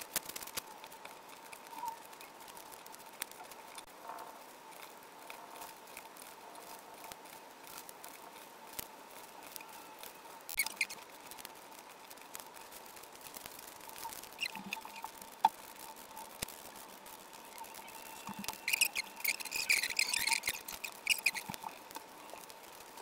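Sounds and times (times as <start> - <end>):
paper rustling and creasing: 0.0 - 23.0
small clicks: 0.0 - 23.0.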